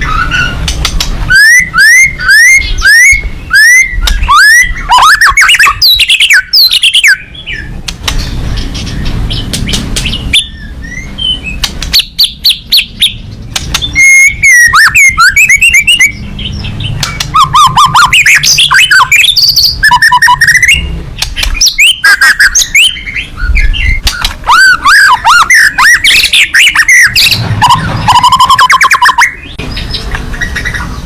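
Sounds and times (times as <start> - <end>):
bird singing whistled song: 0.0 - 7.8, 8.9 - 31.0.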